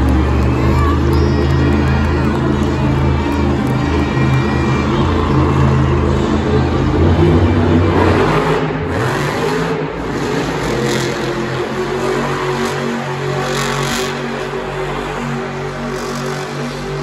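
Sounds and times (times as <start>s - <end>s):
monster truck engines revving: 0.0s - 17.0s.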